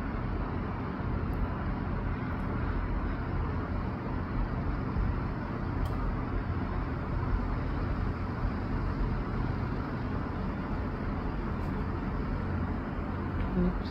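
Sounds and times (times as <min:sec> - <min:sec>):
low outdoor rumble: 0:00.0 - 0:13.9.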